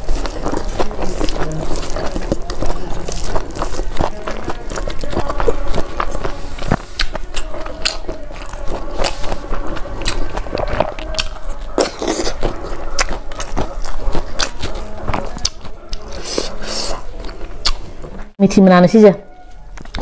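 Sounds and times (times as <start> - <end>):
fingers mixing rice: 0.0 - 17.4
chewing with mouth clicks: 0.0 - 18.4, 19.4 - 20.0.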